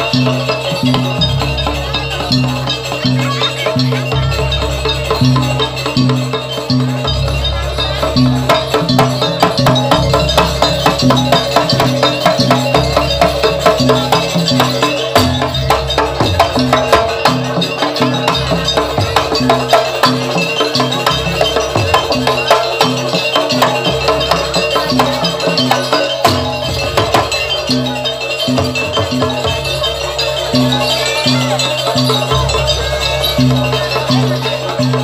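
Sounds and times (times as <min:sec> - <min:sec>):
fast dense percussion: 0:00.0 - 0:35.0.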